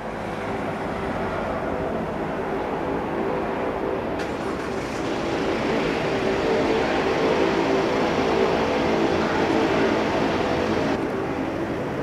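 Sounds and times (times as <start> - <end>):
low drone: 0.0 - 12.0
turboprop engines humming: 0.0 - 12.0.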